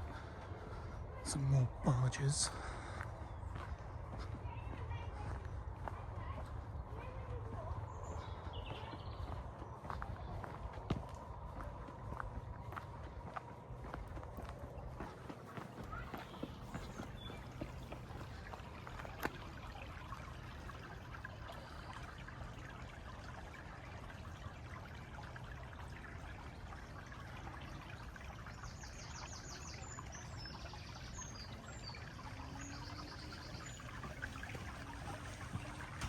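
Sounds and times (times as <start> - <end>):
flowing water: 0.0 - 36.0.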